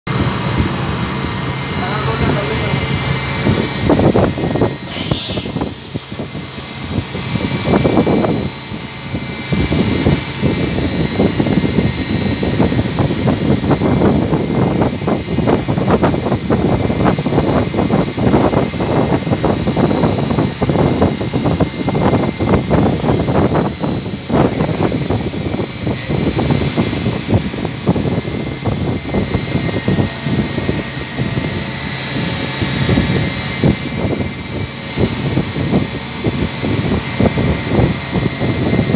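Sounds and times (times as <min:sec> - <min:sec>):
faint high whine: 0:00.1 - 0:38.9
machining centre running: 0:00.1 - 0:38.9.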